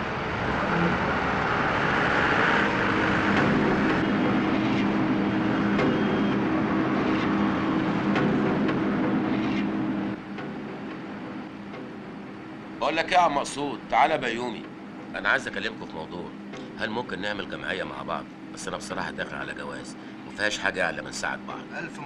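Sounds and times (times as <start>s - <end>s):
mechanical noise with low hum: 0.0s - 22.0s.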